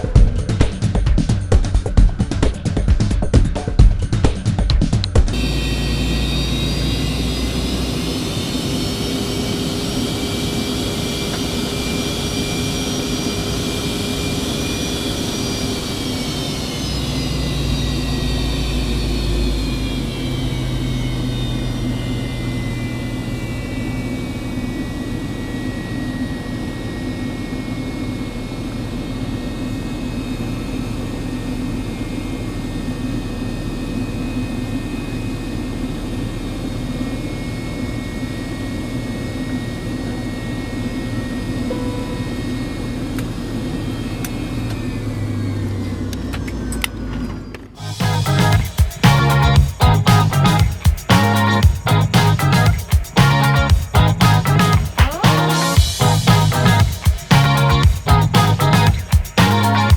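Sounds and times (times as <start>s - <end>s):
jet engines whining in cabin: 5.3s - 58.2s.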